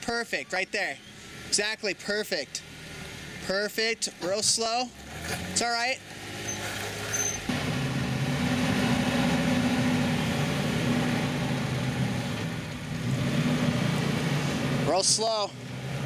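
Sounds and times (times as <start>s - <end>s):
engine pulling at low revs: 0.8s - 16.0s.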